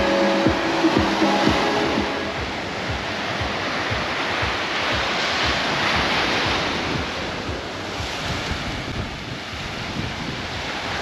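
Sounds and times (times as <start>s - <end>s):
sea waves breaking on beach: 0.0s - 11.0s
wind buffeting microphone: 0.0s - 11.0s.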